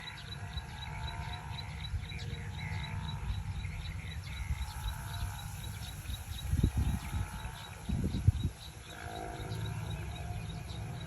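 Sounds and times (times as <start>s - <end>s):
continuous low rumble: 0.0s - 11.0s
insect chirping: 0.0s - 11.0s.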